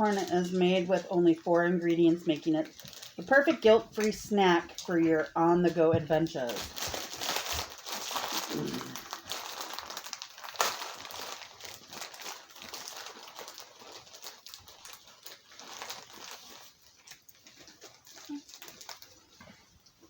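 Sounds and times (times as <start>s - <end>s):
popcorn being crunched: 0.0s - 5.5s, 6.4s - 20.0s
plastic snack bag crinkling: 0.0s - 20.0s.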